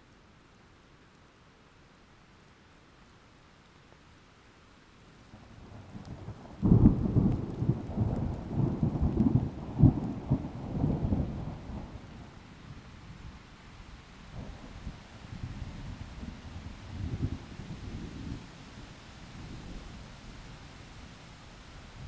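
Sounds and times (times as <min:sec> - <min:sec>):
faint steady rain: 0:00.0 - 0:22.0.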